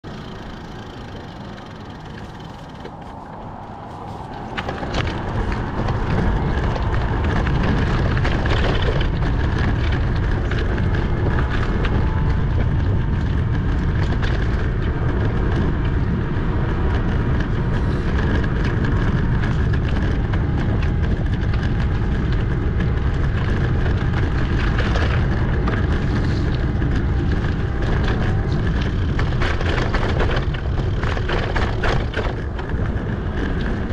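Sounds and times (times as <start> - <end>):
wind rumbling on microphone: 0.0 - 33.9.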